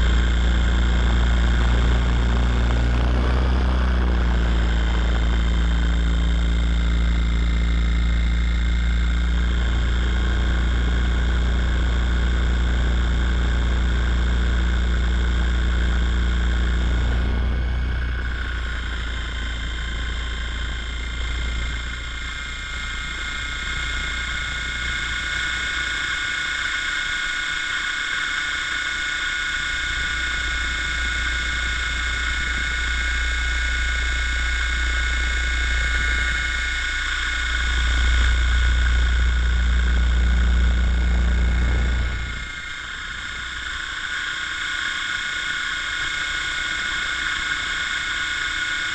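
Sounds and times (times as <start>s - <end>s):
helicopter low drone: 0.0s - 48.9s
high whine: 0.0s - 48.9s
lower hum tones: 0.0s - 48.9s.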